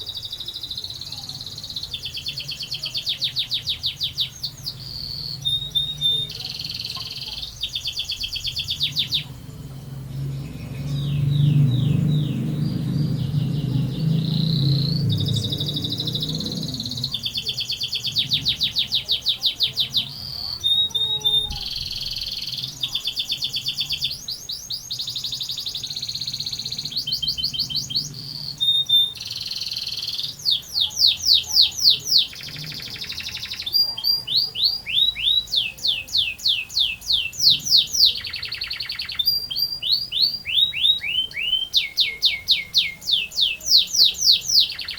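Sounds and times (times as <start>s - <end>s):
canary singing rapid trills: 0.0s - 44.9s.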